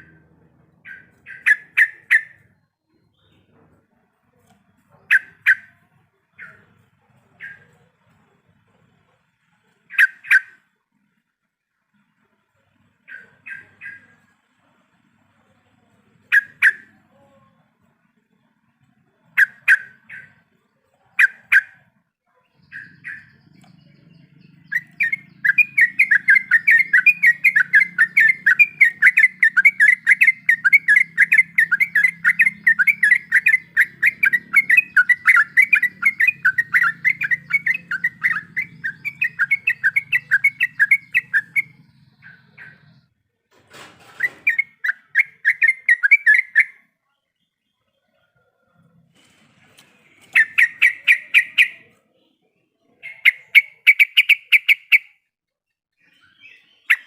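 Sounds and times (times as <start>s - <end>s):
bulbul chattering song: 0.0s - 10.7s, 11.8s - 43.2s, 44.2s - 48.3s, 50.0s - 55.3s, 55.9s - 57.0s.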